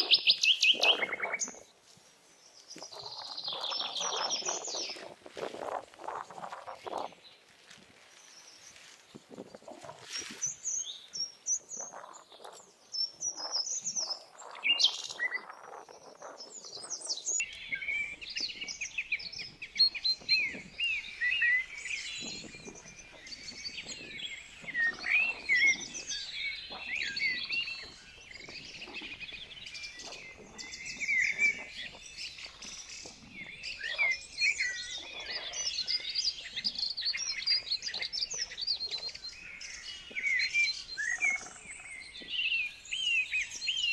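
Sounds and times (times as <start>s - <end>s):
birds chirping and warbling: 0.0s - 43.9s.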